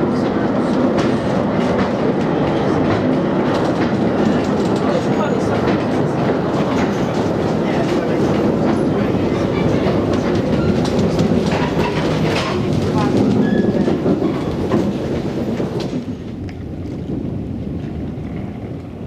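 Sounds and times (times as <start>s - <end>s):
train wheels clicking over rail joints: 0.2s - 18.9s.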